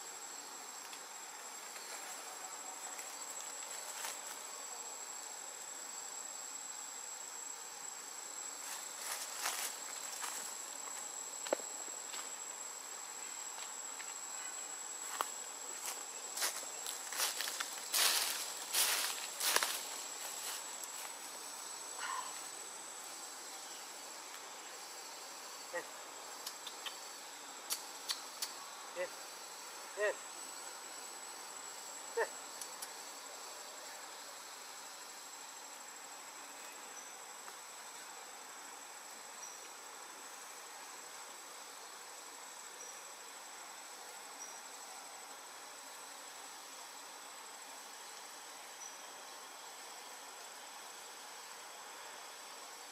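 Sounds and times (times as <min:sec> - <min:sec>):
insect chorus: 0:00.0 - 0:52.9.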